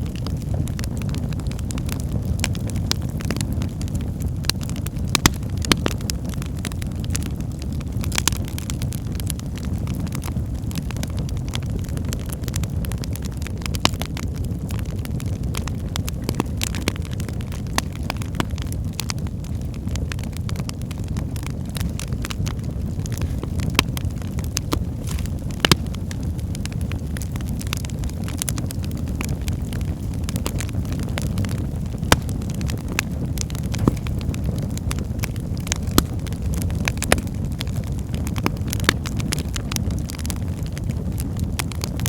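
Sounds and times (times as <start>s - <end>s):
crackles and pops of burning logs: 0.0s - 42.0s
wood fire burning: 0.0s - 42.0s.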